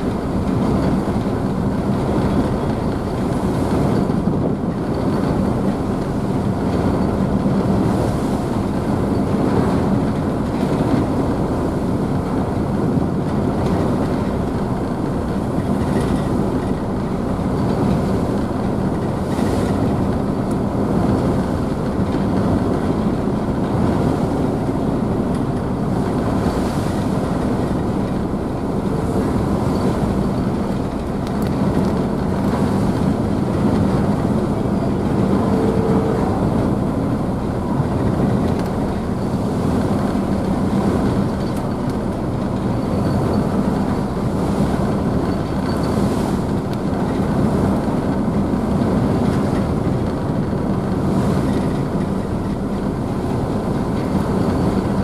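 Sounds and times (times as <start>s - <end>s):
ship engines droning: 0.0s - 55.0s
wake water rushing and splashing: 0.0s - 55.0s.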